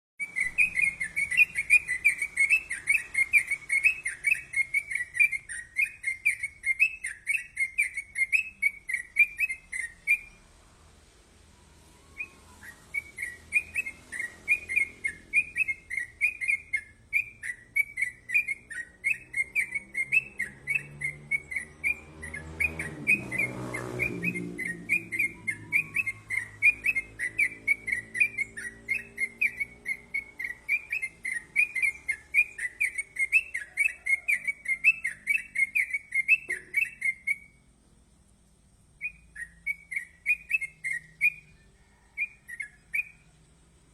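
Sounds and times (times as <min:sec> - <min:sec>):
bird whistled chirps: 0:00.2 - 0:10.5, 0:11.6 - 0:37.7, 0:39.0 - 0:43.5.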